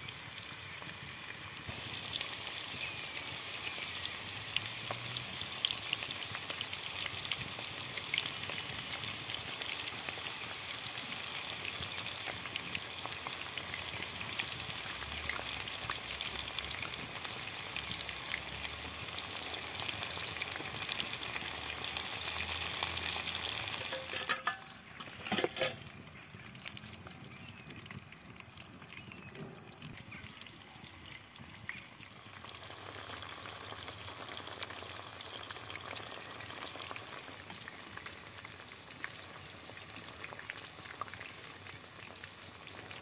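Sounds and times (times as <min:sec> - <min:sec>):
chicken deep-frying in oil: 0:00.0 - 0:43.0.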